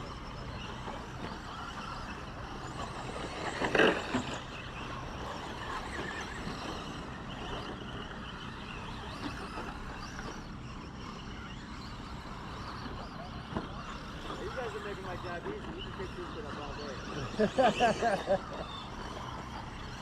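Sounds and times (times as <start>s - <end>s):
rc trucks motor and tyre noise: 0.0s - 20.0s.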